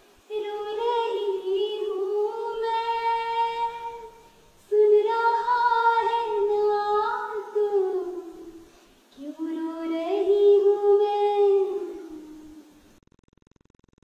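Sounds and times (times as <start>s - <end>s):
girl singing unaccompanied: 0.1s - 12.9s.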